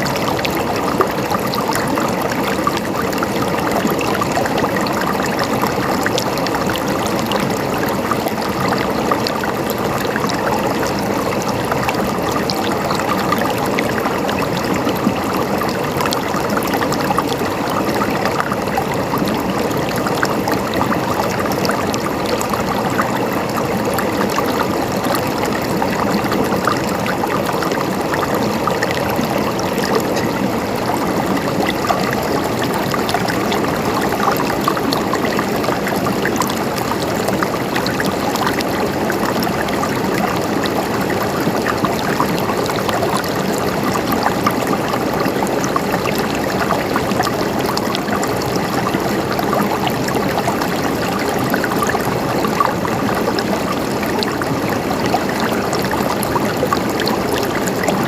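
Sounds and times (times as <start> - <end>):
running water gurgling: 0.0 - 58.0.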